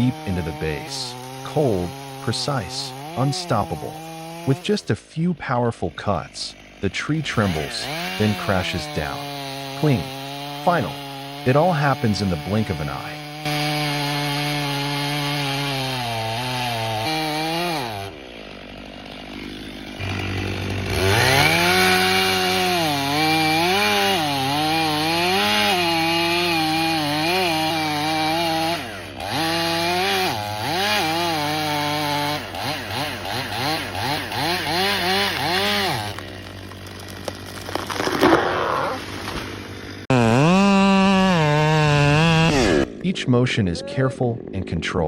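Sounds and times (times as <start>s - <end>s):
chainsaw engine revving: 0.0s - 43.2s.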